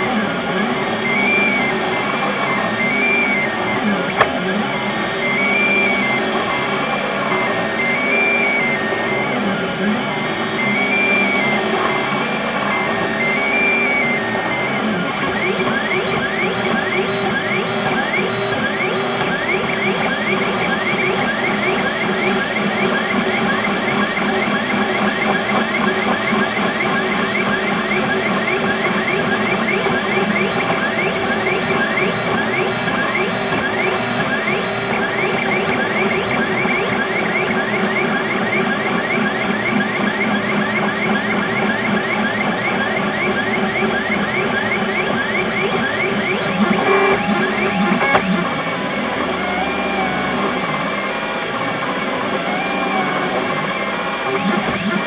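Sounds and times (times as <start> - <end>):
stepper motors whining: 0.0 - 55.0.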